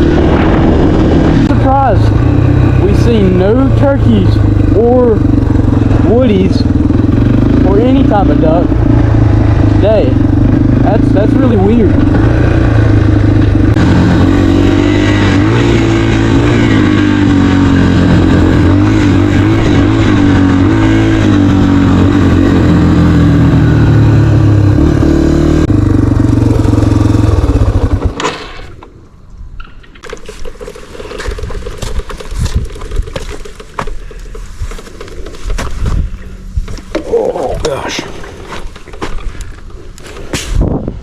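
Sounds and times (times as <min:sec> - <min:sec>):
dirt bike engine running: 0:00.0 - 0:28.8, 0:30.0 - 0:40.5.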